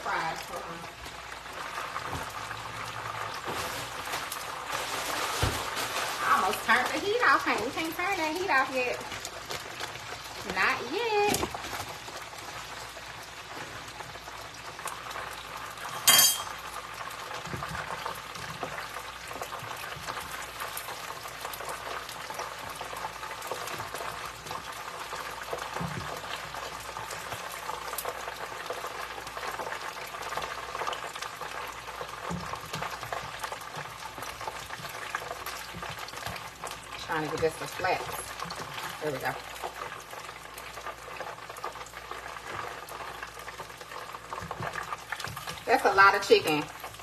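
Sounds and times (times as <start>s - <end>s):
oil bubbling and crackling: 0.0s - 47.0s.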